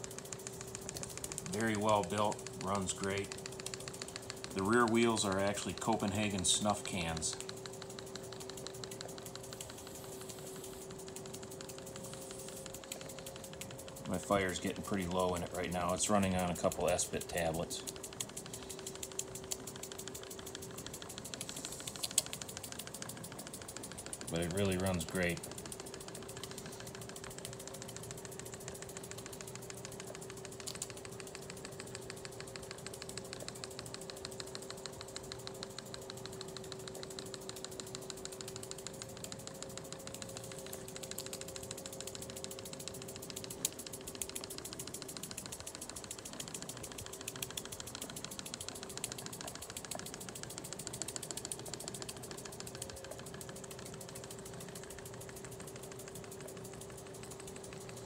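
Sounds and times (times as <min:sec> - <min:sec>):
faint hum: 0:00.0 - 0:58.0.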